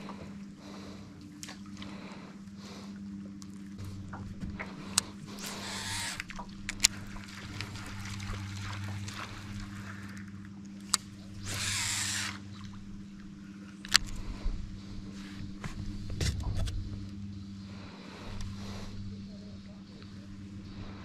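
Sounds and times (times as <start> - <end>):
electric motor humming: 3.1 - 21.0.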